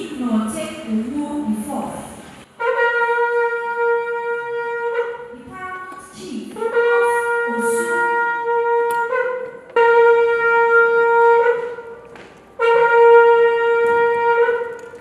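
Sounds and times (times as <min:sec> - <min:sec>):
wind instrument long held notes: 0:02.5 - 0:15.0.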